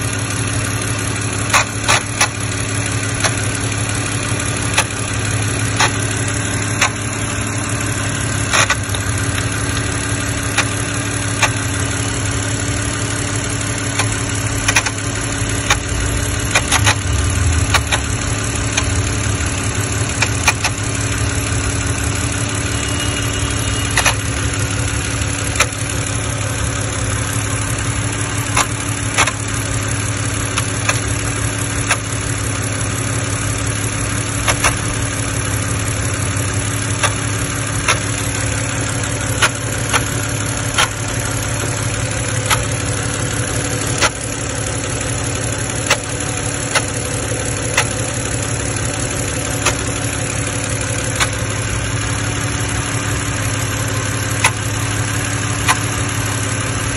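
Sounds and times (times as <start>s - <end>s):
car engine idling: 0.0s - 56.9s
sharp engine clicks: 0.0s - 56.9s.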